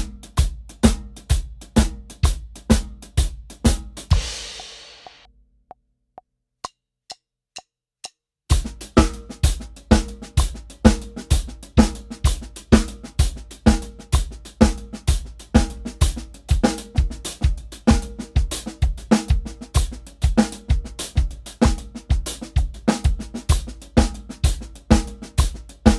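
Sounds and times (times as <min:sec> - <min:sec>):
drum kit groove: 0:00.0 - 0:05.3, 0:08.5 - 0:25.9.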